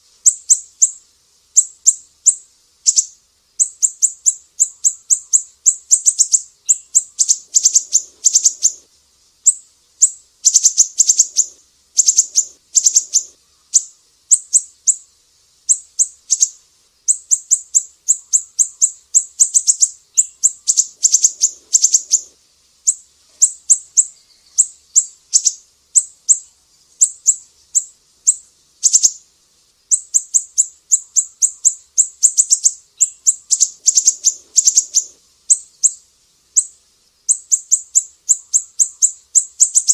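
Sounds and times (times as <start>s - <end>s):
songbird high chirps: 0.0s - 39.9s.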